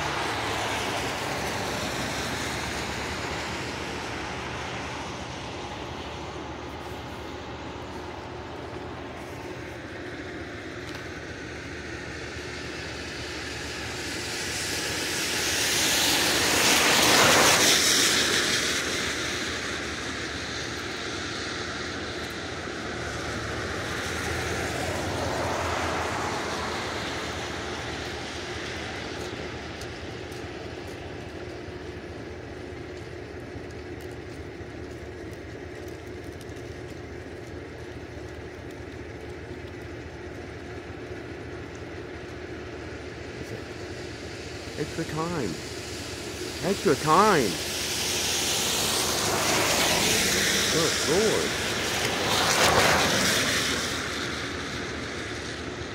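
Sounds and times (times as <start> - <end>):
tyres hissing on wet road: 0.0 - 37.8, 40.2 - 55.9.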